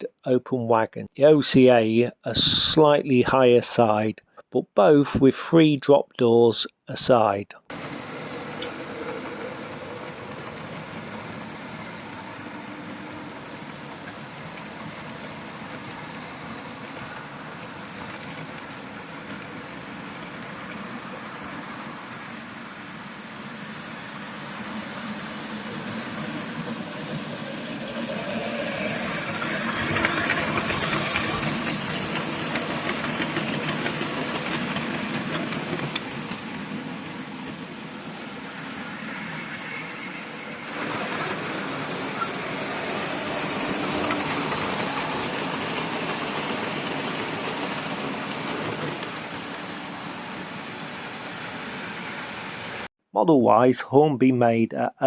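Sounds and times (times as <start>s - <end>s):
model train running: 7.7s - 52.9s.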